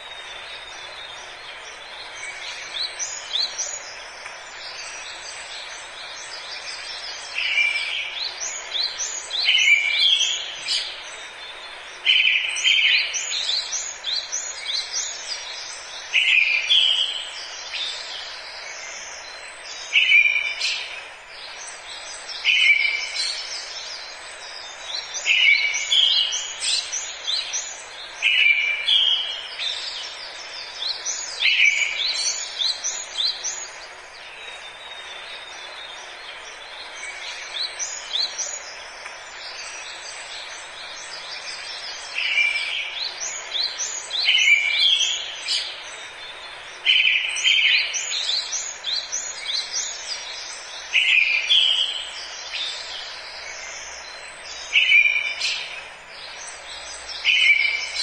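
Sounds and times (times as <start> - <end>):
background hiss: 0.0 - 58.0
birds chirping and calling: 0.0 - 58.0.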